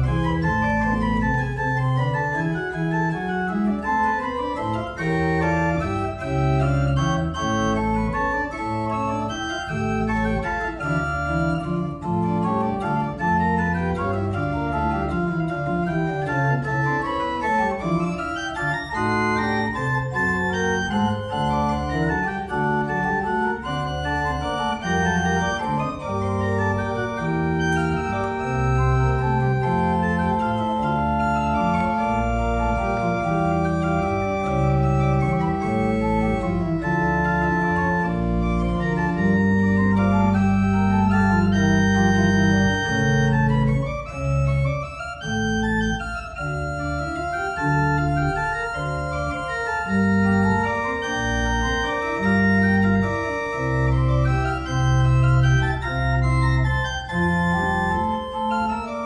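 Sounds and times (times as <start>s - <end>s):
pipe organ playing: 0.0s - 59.0s.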